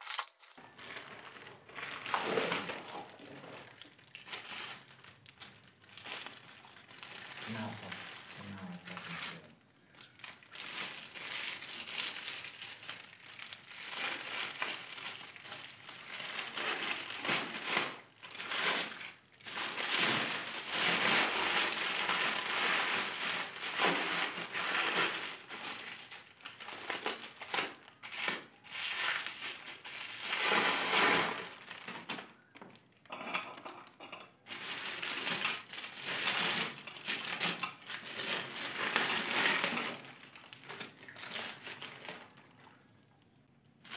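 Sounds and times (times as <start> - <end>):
packaging crinkling: 0.0 - 32.4, 34.4 - 42.9.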